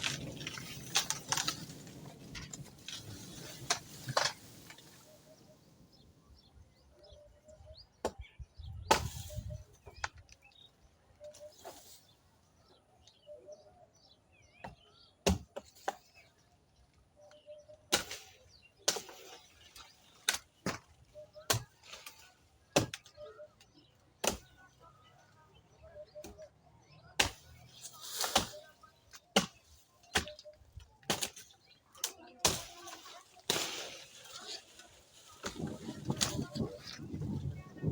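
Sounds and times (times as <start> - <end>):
small birds chirping faintly: 0.1 - 37.9.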